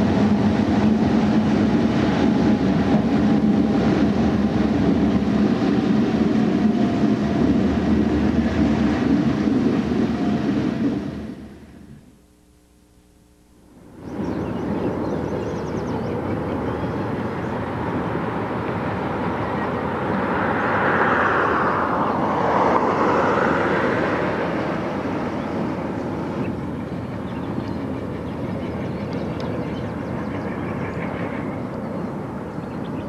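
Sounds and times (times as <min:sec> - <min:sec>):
train rolling noise: 0:00.0 - 0:12.2, 0:13.7 - 0:33.0
diesel locomotive engine: 0:00.0 - 0:12.3, 0:13.6 - 0:33.0.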